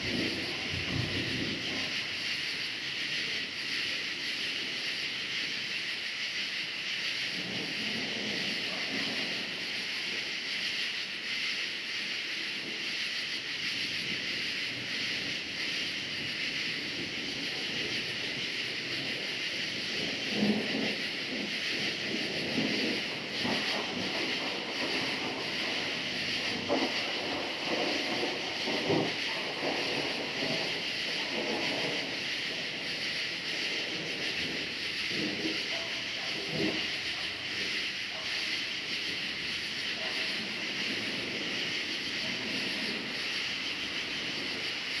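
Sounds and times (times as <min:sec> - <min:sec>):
crickets chirping: 0:00.0 - 0:45.0.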